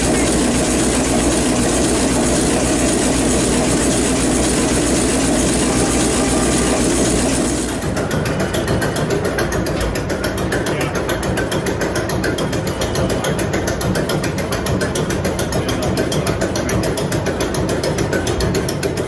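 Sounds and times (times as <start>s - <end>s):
engine running with mechanical clatter: 0.0s - 19.0s.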